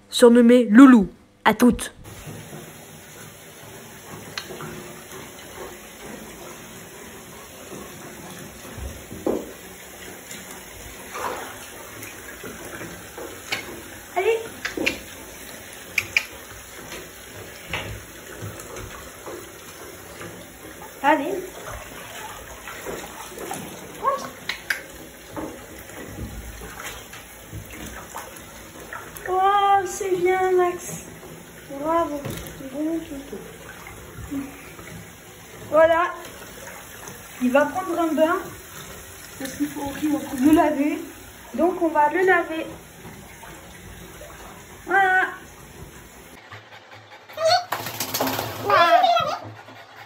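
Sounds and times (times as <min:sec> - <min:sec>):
bathtub filling from tap: 0:02.0 - 0:50.0.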